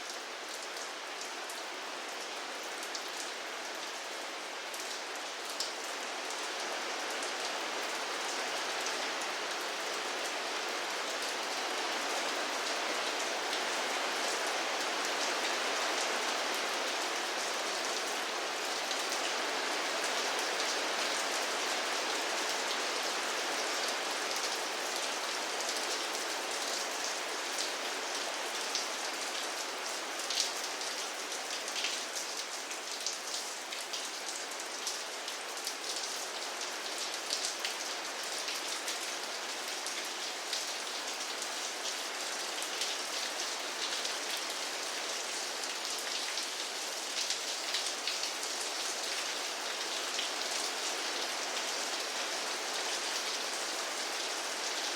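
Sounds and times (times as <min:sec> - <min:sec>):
rain pattering on a surface: 0:00.0 - 0:54.9.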